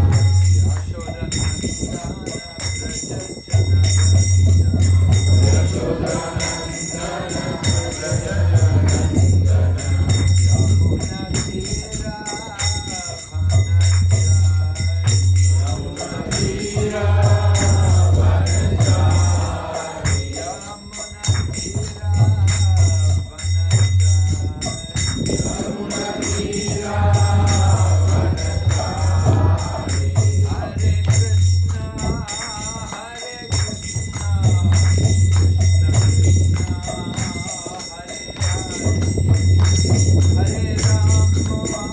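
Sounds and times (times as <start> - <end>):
group singing devotional song: 0.0 - 41.9
jingling percussion: 0.0 - 41.9.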